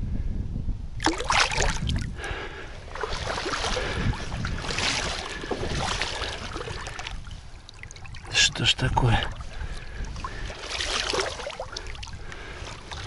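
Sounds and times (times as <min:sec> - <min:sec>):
pond water splashing: 0:01.0 - 0:13.0.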